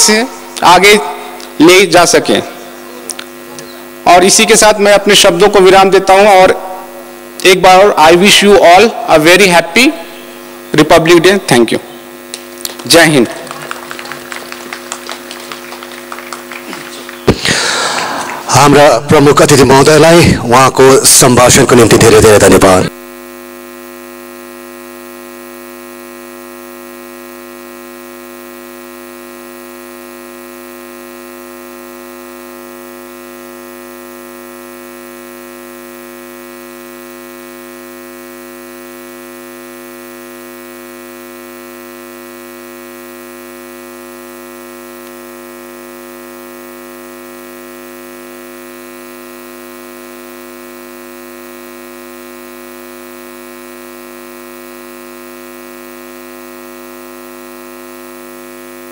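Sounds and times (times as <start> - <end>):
electrical mains hum: 0.0 - 58.9.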